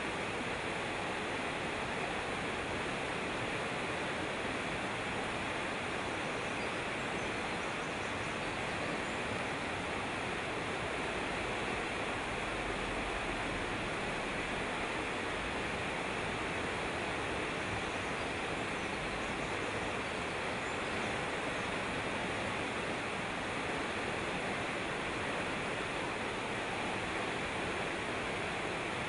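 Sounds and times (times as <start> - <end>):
stream running over rocks: 0.0 - 29.0.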